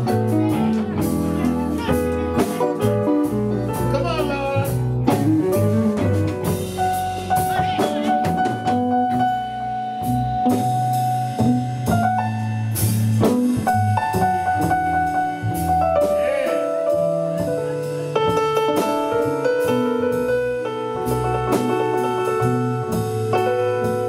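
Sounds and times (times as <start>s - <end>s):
bass line: 0.0s - 24.0s
drum kit: 0.0s - 24.0s
held keyboard notes: 0.0s - 24.0s.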